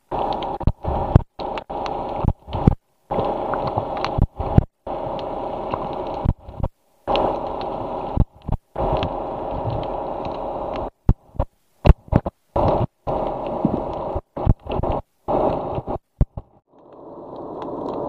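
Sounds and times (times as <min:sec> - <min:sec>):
muffled underwater hum: 0:00.0 - 0:18.0.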